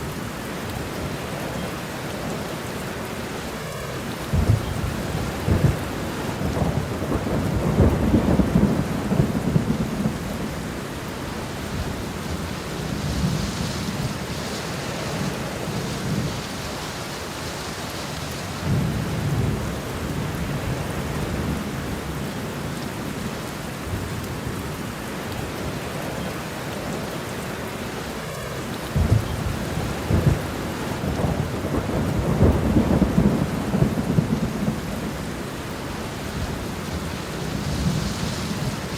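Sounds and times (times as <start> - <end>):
steady rain: 0.0 - 38.9
thunder rumbling: 1.0 - 22.7, 25.4 - 38.9.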